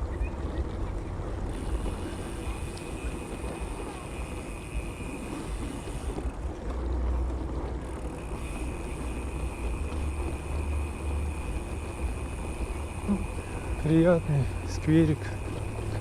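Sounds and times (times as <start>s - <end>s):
road noise: 0.0s - 16.0s
wind rumbling on microphone: 0.0s - 16.0s.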